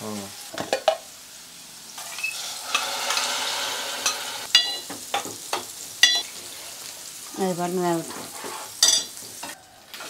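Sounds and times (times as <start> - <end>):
beans sizzling in hot pot: 0.0 - 10.0.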